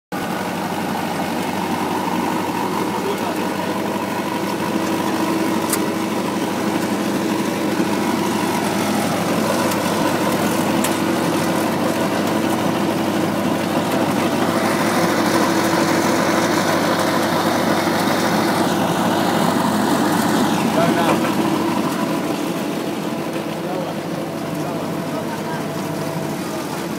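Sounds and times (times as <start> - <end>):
tractor engine idling: 0.1 - 26.9.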